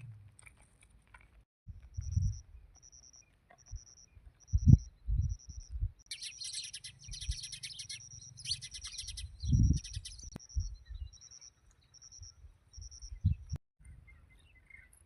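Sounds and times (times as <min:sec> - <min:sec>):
sparrows chirping: 0:02.0 - 0:15.0.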